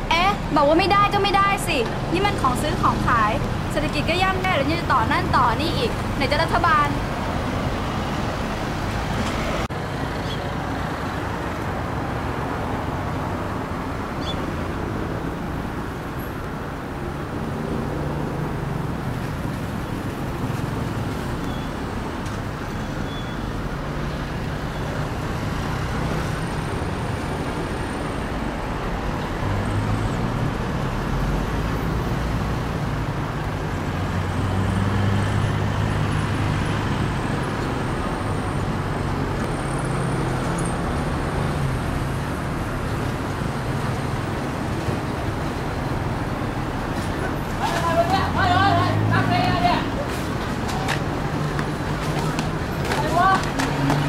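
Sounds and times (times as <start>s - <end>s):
road traffic hum: 0.0s - 54.0s
vehicles passing: 0.0s - 54.0s.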